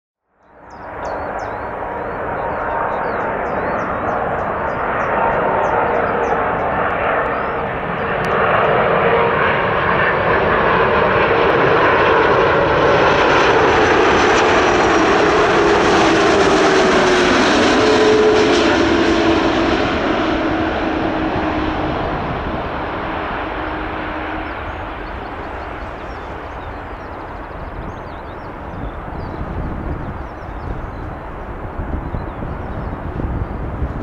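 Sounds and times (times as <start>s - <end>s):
jet engines roaring: 0.6s - 34.0s
jet whine dropping in pitch: 0.9s - 34.0s.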